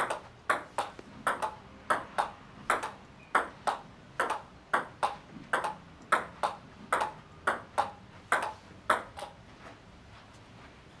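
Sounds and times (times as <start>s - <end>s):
table tennis ball clicks: 0.0s - 9.4s.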